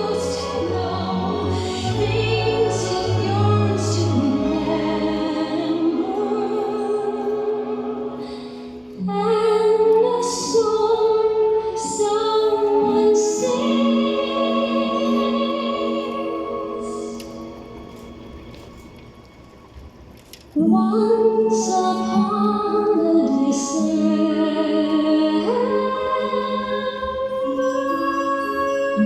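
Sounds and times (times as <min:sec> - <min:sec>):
classical singing with vibrato: 0:00.0 - 0:18.8, 0:20.6 - 0:29.0.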